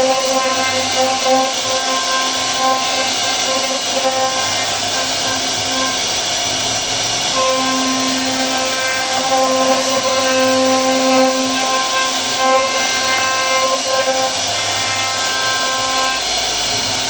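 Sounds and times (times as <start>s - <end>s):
router spindle cutting wood: 0.0s - 17.0s.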